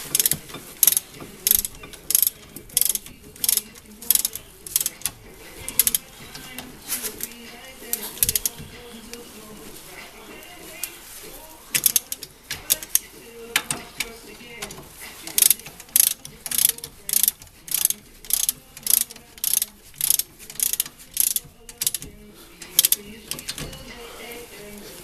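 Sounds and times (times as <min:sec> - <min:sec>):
socket ratchet clicking: 0:00.0 - 0:06.7, 0:07.3 - 0:08.7, 0:11.7 - 0:24.0.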